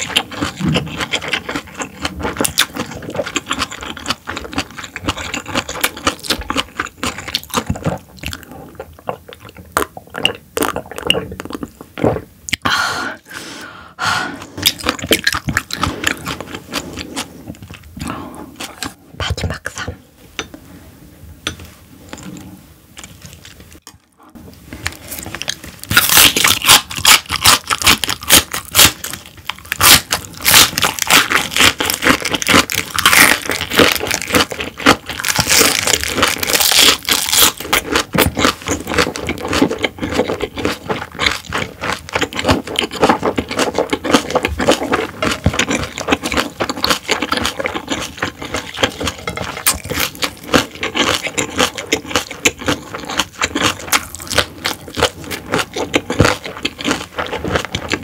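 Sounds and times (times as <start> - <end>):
crunchy chewing: 0.0 - 12.6, 14.4 - 19.8, 22.1 - 58.0.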